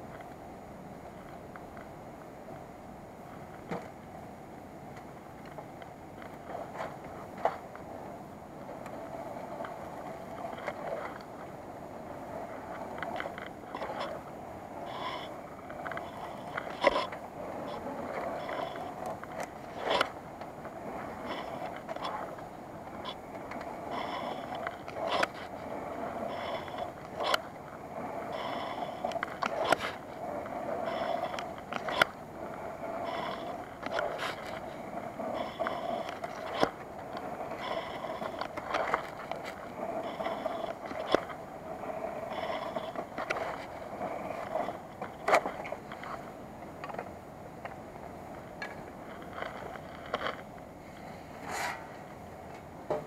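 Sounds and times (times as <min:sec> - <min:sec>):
sharp clicks and scrapes: 0:08.7 - 0:11.6, 0:12.2 - 0:53.0.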